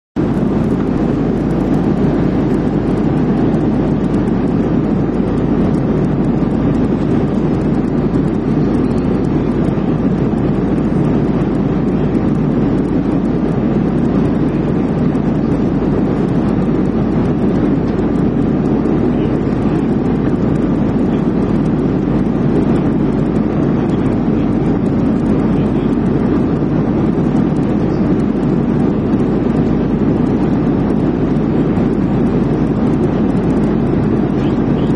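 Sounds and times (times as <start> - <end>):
aircraft cabin drone: 0.2 - 34.9.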